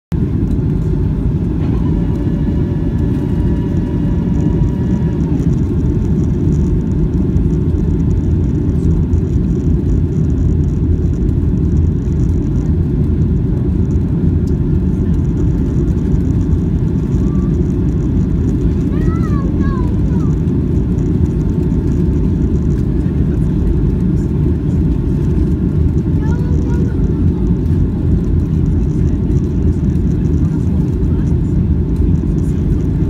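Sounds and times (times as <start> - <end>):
faint whine: 0.1 - 33.0
jet engine cabin rumble: 0.1 - 33.0.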